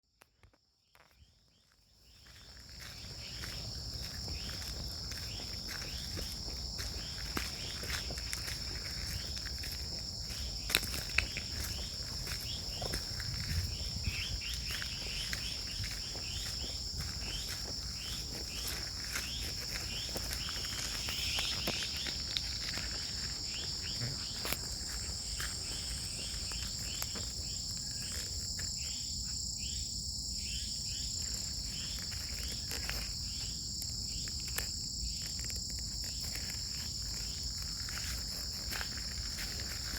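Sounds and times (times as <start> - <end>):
crickets and insects chirping: 0.1 - 39.9.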